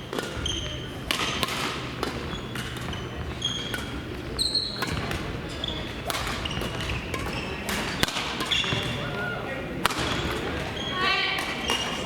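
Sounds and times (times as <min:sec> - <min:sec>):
low background noise: 0:00.0 - 0:12.0
rackets striking shuttlecock: 0:00.0 - 0:12.0
shoes squeaking on court floor: 0:00.0 - 0:12.0.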